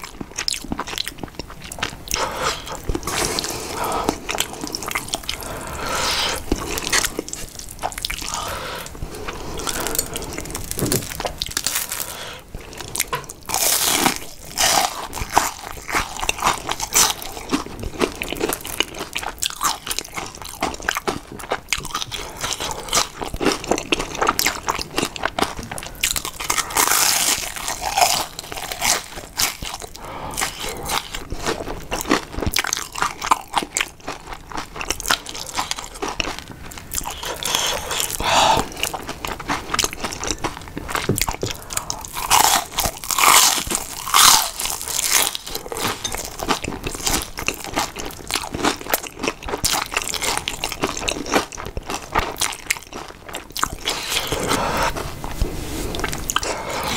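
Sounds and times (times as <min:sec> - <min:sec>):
crunchy bites and chewing: 0:00.0 - 0:56.9
wet noodles being eaten: 0:00.0 - 0:56.9.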